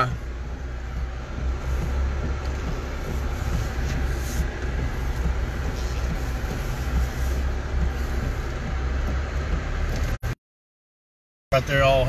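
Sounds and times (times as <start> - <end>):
car engine drone inside cabin: 0.0 - 10.4, 11.5 - 12.0
tyres hissing on wet pavement: 0.1 - 10.2.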